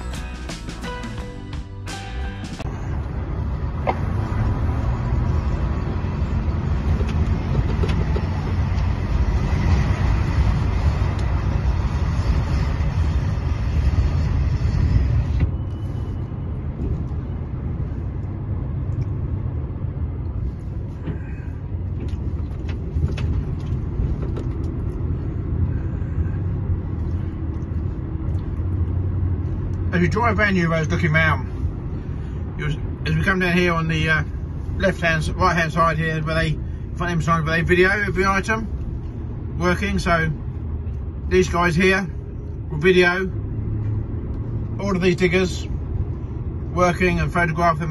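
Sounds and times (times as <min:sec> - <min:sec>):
lorry diesel engine drone: 0:00.0 - 0:47.9.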